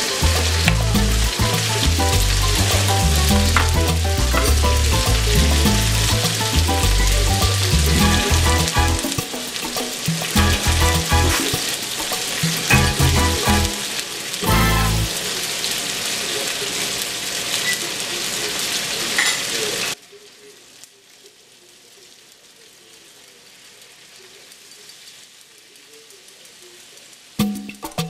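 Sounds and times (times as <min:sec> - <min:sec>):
shrimp sizzling in a skillet: 0:00.0 - 0:28.0.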